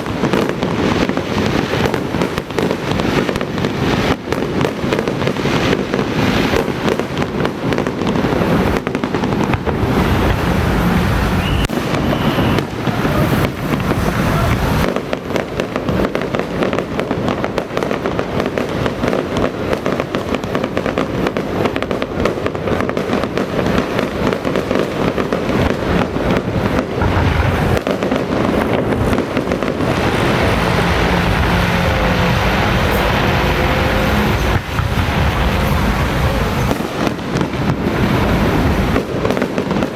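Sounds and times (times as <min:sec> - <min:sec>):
firecrackers banging: 0:00.0 - 0:39.9.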